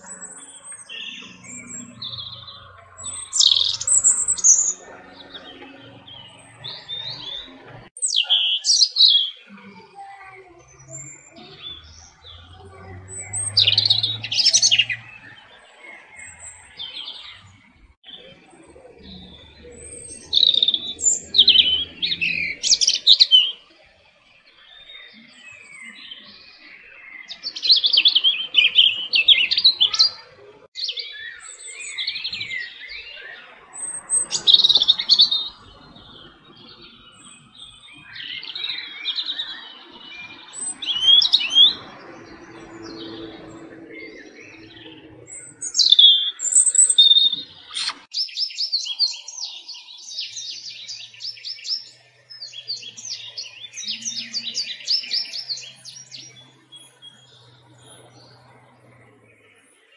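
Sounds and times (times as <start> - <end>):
robin singing: 0.0 - 59.9.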